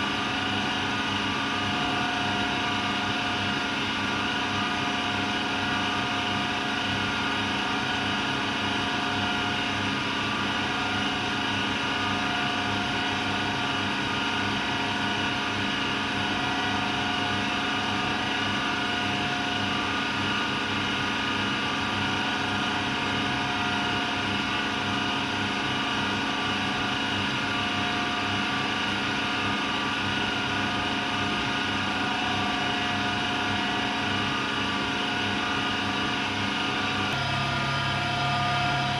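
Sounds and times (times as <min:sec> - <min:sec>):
washer-dryer humming with whine: 0:00.0 - 0:38.9.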